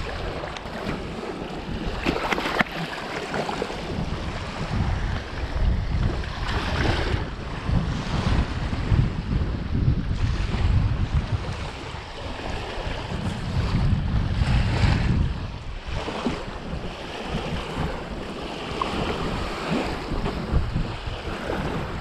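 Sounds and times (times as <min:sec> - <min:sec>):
waves washing on shore: 0:00.0 - 0:22.0
wind buffeting microphone: 0:00.0 - 0:22.0.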